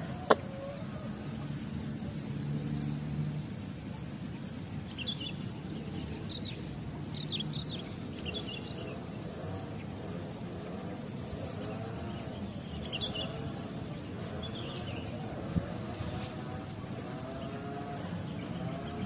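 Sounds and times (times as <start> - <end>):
outdoor background hiss: 0.0 - 19.0
small birds chirping: 0.0 - 19.0.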